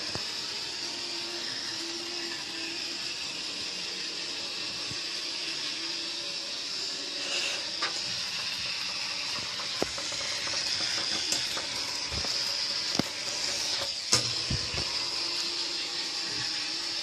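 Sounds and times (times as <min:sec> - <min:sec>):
running water hiss: 0:00.0 - 0:17.0.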